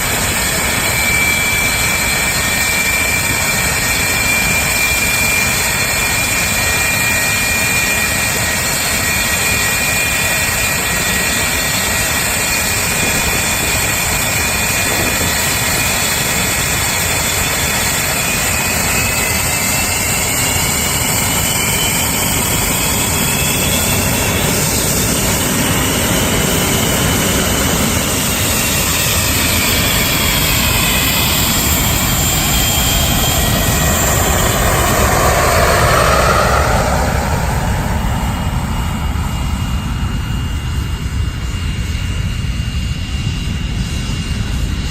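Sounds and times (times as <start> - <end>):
jet engines rumbling with whines: 0.0 - 44.9.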